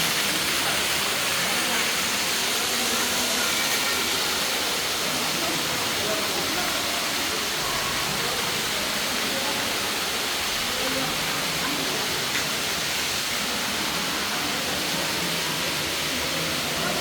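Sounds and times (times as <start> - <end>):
faint voices: 0.0 - 17.0
rushing water: 0.0 - 17.0.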